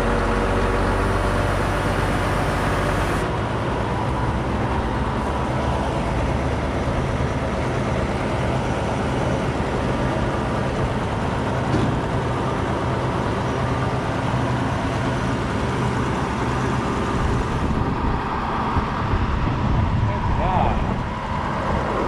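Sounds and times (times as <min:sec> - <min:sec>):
truck engine running steadily: 0:00.0 - 0:22.0.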